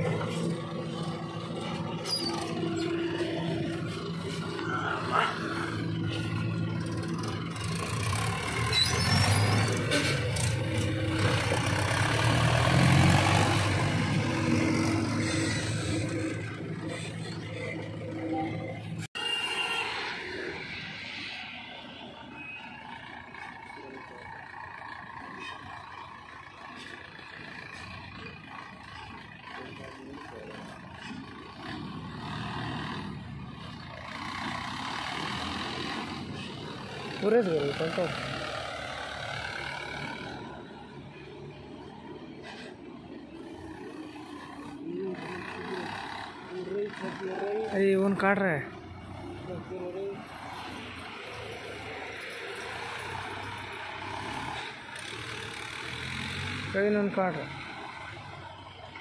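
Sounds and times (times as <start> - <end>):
tractor diesel engine pulling load: 0.0 - 59.0.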